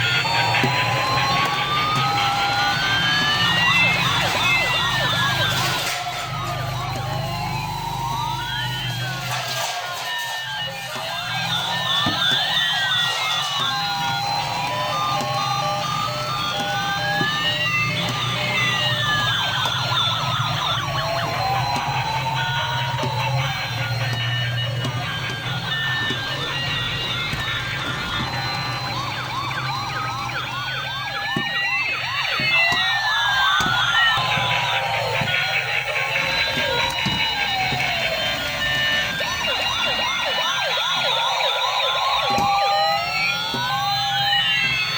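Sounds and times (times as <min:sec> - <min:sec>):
toy electronic siren wailing: 0:00.0 - 0:44.9.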